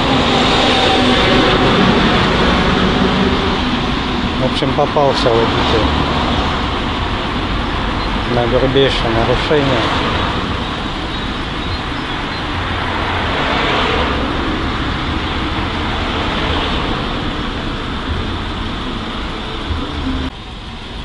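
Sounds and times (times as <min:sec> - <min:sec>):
vehicle passing: 0:00.0 - 0:20.3
road traffic: 0:00.0 - 0:21.0.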